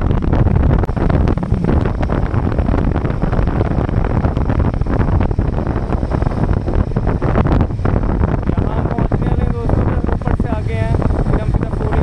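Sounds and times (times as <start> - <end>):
motorcycle engine at speed: 0.0 - 12.0
wind buffeting microphone: 0.0 - 12.0.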